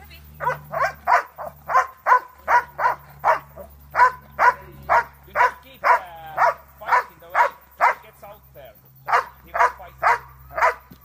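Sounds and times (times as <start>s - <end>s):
dog barking: 0.4s - 8.1s, 9.1s - 10.9s.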